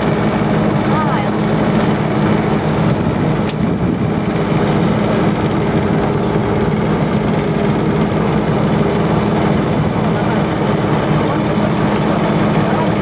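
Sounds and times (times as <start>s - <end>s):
motor boat engine humming: 0.0s - 13.0s.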